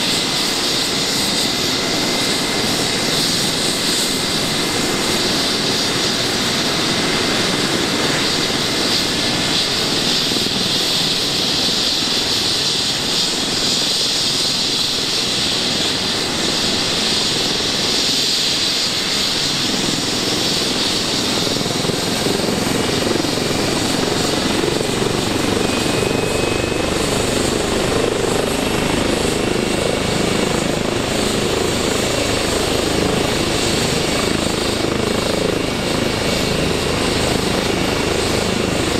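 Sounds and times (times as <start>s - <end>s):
helicopter rotor: 0.0s - 38.9s
helicopter turbine whine: 0.0s - 38.9s.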